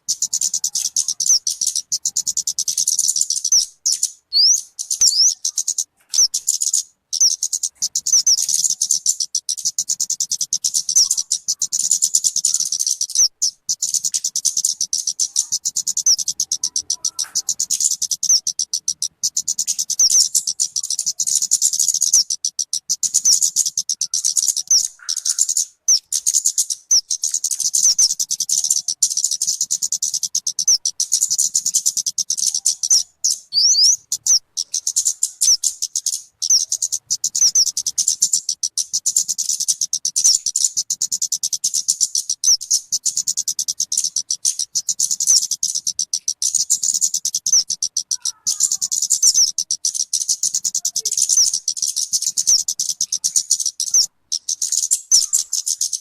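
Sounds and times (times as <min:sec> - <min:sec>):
bird chirping and trilling: 0:00.0 - 0:56.0.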